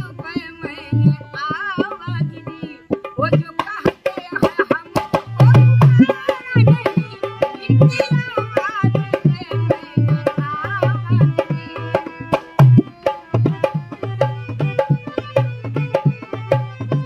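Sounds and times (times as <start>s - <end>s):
hand drum folk rhythm: 0.0s - 17.0s
harmonium: 0.0s - 17.0s.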